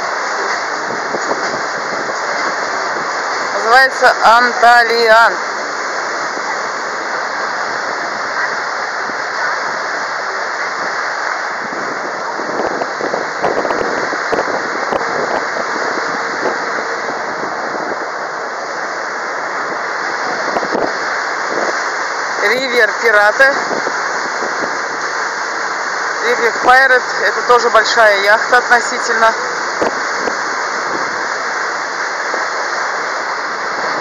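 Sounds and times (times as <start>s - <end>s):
water rushing along boat hull: 0.0s - 34.0s.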